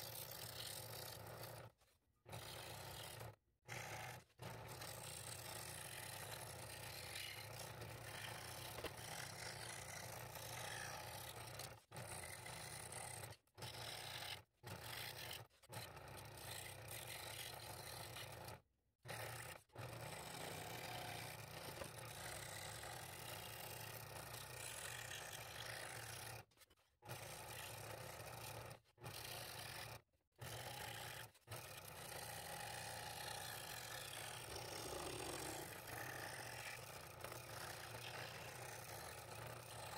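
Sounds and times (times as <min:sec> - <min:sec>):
scroll saw cutting wood: 0:00.0 - 0:39.9.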